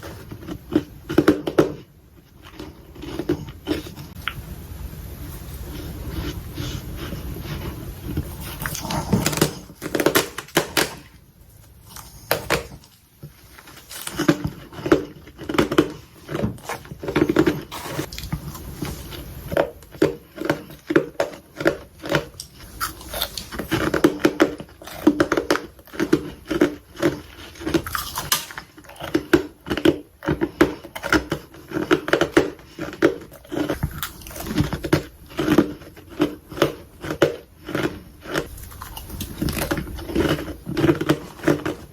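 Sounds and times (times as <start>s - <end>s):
frost being chewed: 0.0s - 4.4s, 5.3s - 41.9s.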